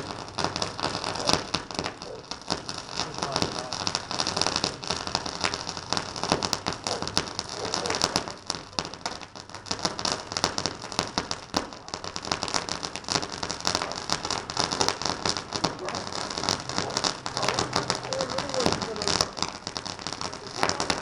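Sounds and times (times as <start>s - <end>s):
firework crackling pops: 0.0s - 21.0s
firework hiss: 0.0s - 21.0s.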